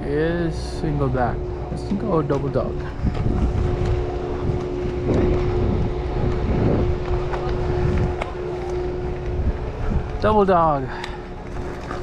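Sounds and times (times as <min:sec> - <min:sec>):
steady hum: 0:00.0 - 0:12.0
wind buffeting microphone: 0:00.0 - 0:12.0
bike tyres rumbling on dirt: 0:01.4 - 0:12.0.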